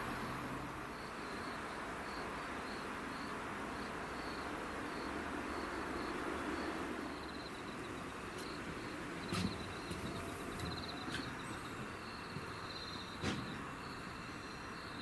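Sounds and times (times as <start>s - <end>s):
insects chirping in trills: 0.0s - 15.0s
outdoor hiss: 0.0s - 15.0s.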